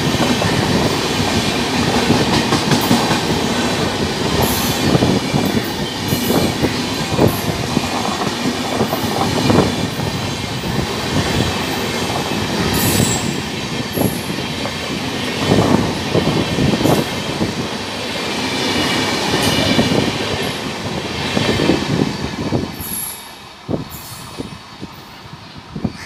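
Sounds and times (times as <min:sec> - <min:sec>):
train wheels clattering over rail joints: 0:00.0 - 0:23.3.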